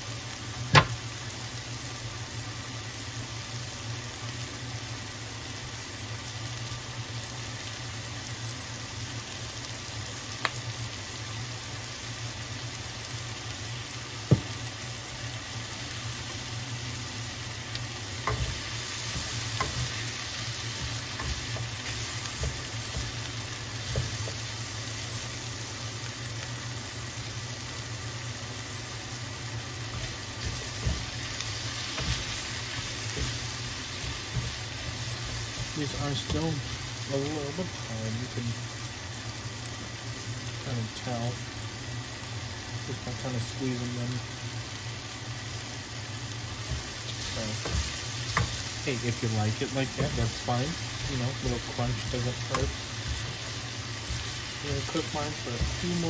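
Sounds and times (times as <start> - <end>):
vegetables sizzling in a skillet: 0.0 - 56.0.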